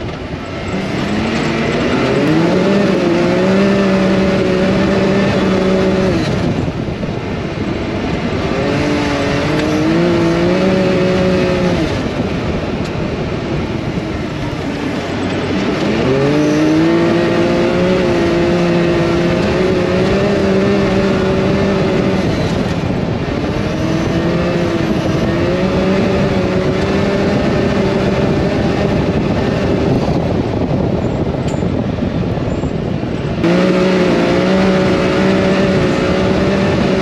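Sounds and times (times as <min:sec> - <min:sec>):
vehicle engine running: 0:00.0 - 0:37.0
wind and tyre noise: 0:00.0 - 0:37.0.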